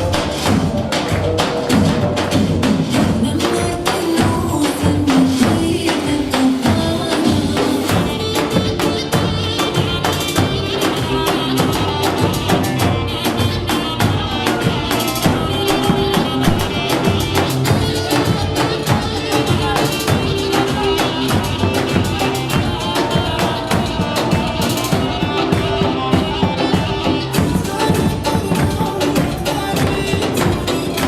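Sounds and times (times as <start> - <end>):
dance music: 0.0 - 31.0.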